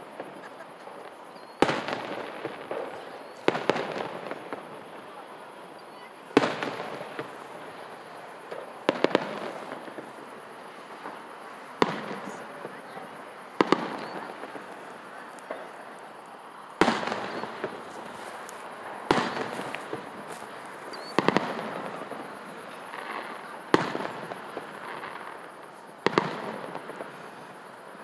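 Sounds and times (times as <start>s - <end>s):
fireworks booming: 0.0s - 27.9s.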